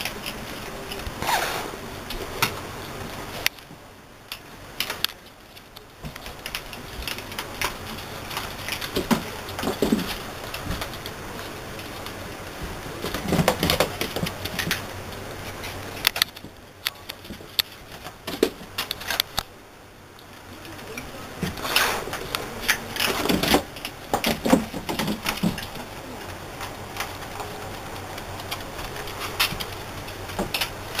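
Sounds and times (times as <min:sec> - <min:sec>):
puppies scuffling: 0:04.4 - 0:19.5, 0:20.2 - 0:31.0.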